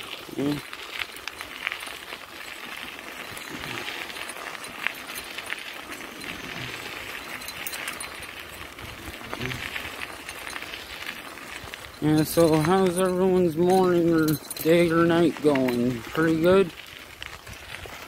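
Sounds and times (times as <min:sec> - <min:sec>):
bicycle tyres on gravel: 0:00.0 - 0:18.0
bike clicks and rattles: 0:00.0 - 0:18.0.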